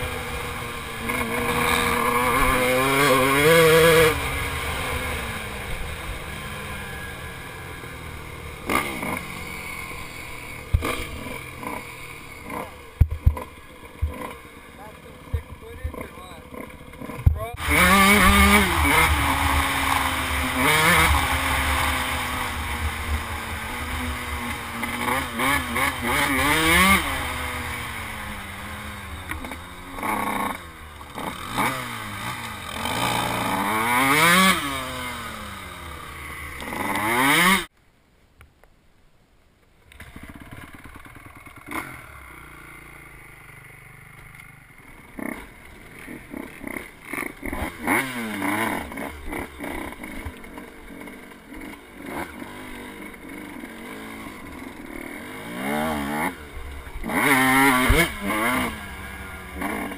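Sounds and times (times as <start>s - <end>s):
dirt bike engine revving: 0.0s - 37.7s, 40.0s - 59.9s.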